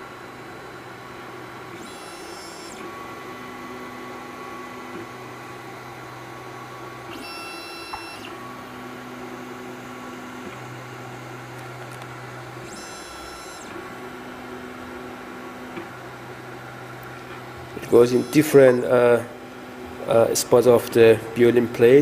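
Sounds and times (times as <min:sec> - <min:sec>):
stepper motors humming: 0:00.1 - 0:22.0.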